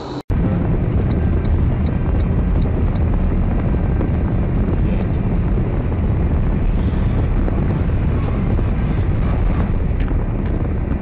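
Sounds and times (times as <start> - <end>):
moving car rumble: 0.0 - 11.0
road and wind noise: 0.0 - 11.0.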